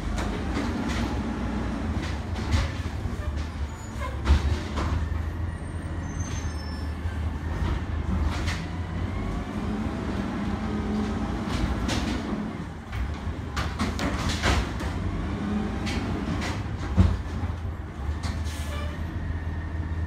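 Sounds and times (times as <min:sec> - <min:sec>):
truck engine rumble: 0:00.0 - 0:20.0.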